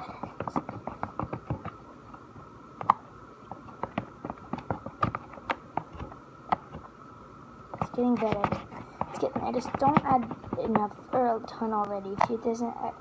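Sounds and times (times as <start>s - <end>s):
slime being stirred with a stick: 0.0s - 1.8s, 2.8s - 6.9s, 7.7s - 12.7s.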